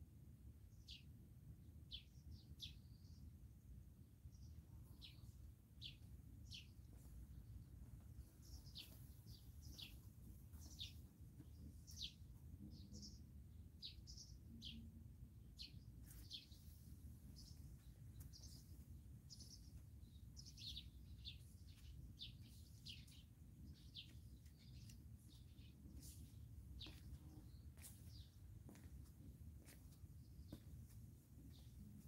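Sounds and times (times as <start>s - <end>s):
songbirds chirping: 0.1s - 32.0s.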